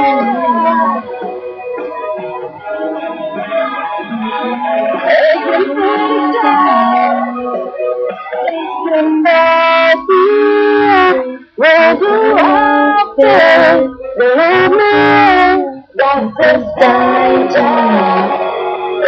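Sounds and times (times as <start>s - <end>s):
song with sung melody: 0.0s - 19.0s.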